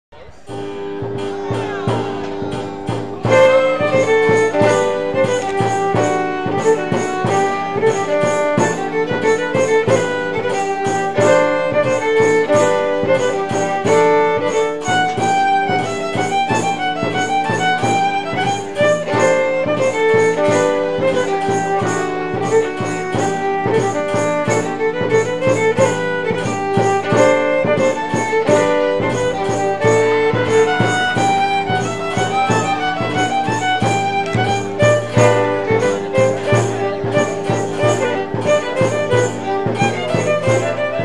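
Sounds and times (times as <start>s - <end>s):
rhythmic accompaniment: 0.1s - 41.0s
bowed violin melody: 0.2s - 41.0s.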